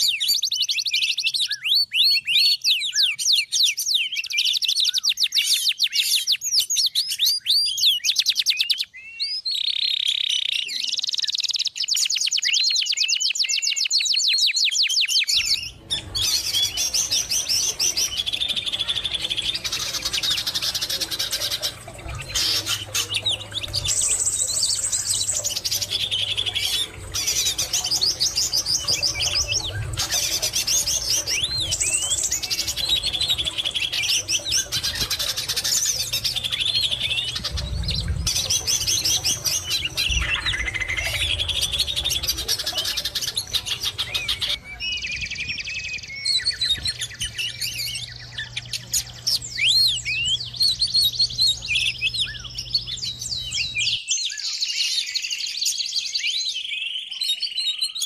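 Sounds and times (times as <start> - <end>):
chorus of bird calls: 0.0 - 58.0.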